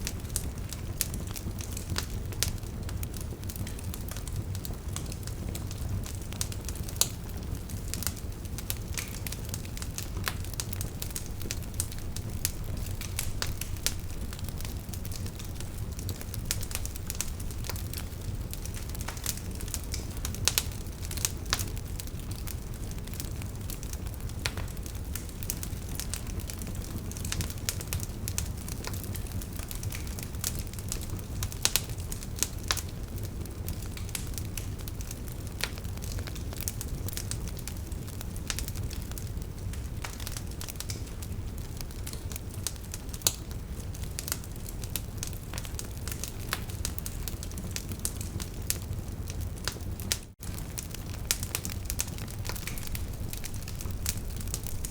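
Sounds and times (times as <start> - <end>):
campfire rumble: 0.0 - 54.9
fire crackling and popping: 0.0 - 54.9.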